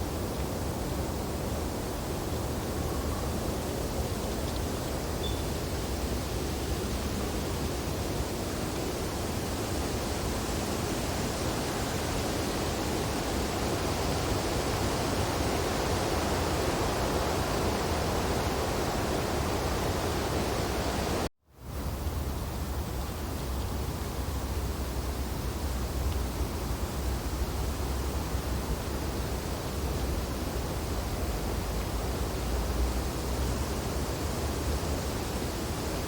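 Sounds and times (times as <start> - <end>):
wind through tree branches: 0.0 - 36.0.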